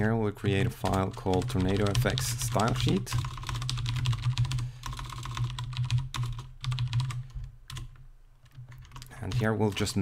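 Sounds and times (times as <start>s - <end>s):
typing on computer keyboard: 0.4s - 10.0s.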